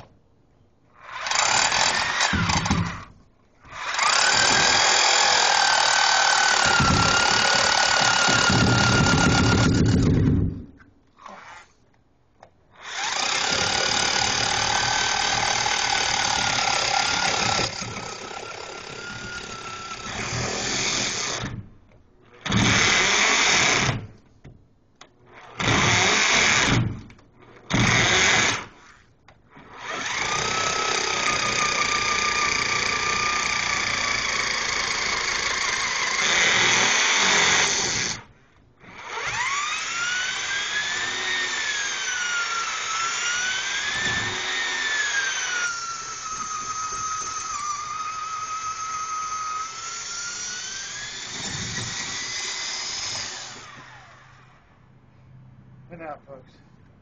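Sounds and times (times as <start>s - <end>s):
electric drill boring into soil: 1.0s - 10.5s, 11.2s - 11.7s, 12.8s - 21.6s, 22.4s - 24.1s, 25.3s - 26.9s, 27.6s - 54.6s.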